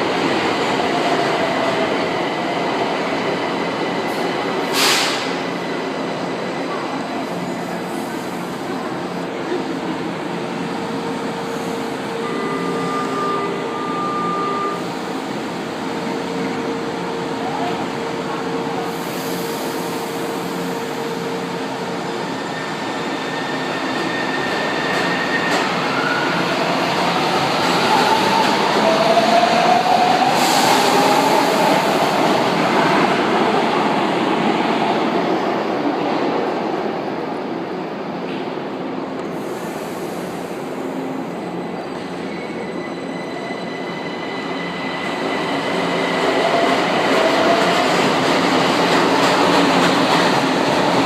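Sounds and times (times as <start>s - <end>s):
rising whine of train: 0.0s - 51.0s
subway train running: 0.0s - 51.0s.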